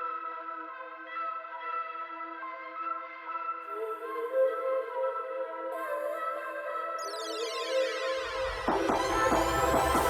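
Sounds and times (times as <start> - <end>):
ambient music with held tones: 0.0 - 10.0.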